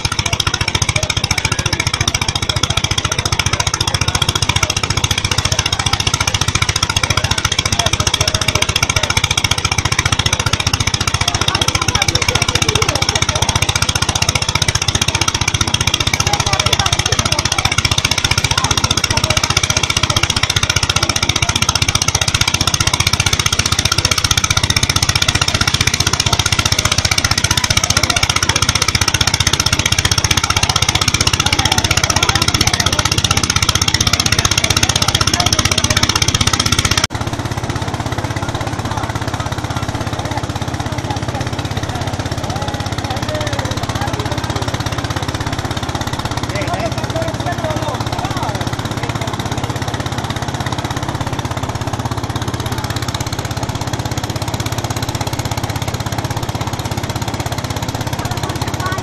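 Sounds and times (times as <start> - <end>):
threshing machine running: 0.0 - 59.0.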